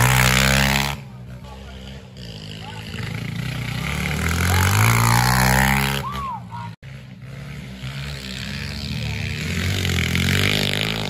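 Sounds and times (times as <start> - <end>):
pit bike engine revving: 0.0 - 11.0
second pit bike engine revving: 0.0 - 11.0.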